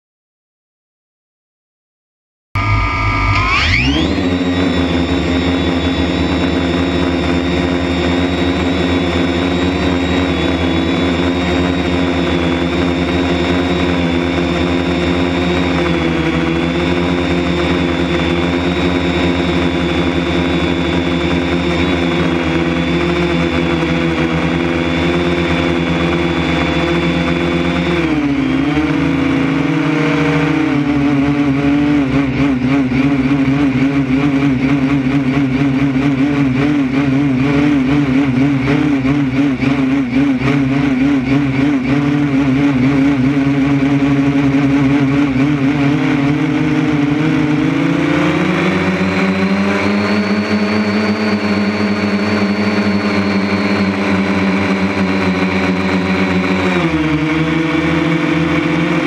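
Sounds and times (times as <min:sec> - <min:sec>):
drone motors and propellers whining: 0:02.6 - 0:59.0.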